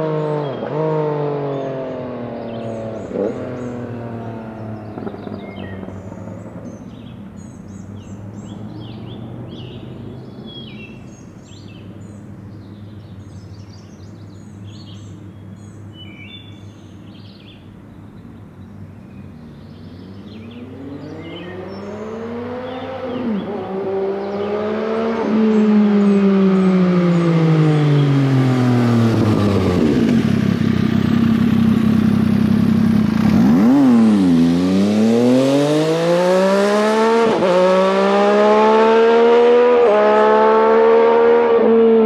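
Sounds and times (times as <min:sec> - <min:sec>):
motorcycle engine approaching: 0:00.0 - 0:17.5, 0:18.6 - 0:42.0
songbirds chirping: 0:00.0 - 0:42.0.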